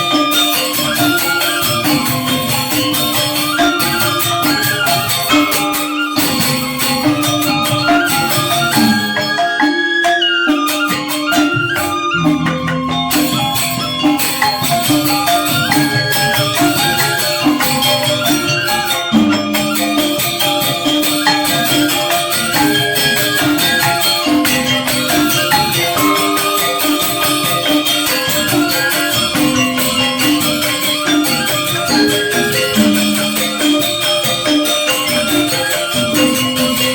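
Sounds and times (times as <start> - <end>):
gamelan ensemble playing: 0.0 - 36.9.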